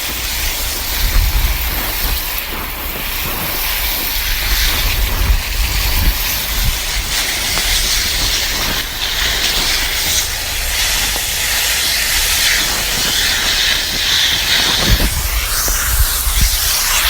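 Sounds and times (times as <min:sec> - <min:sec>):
garden hose spraying water: 0:00.0 - 0:17.0.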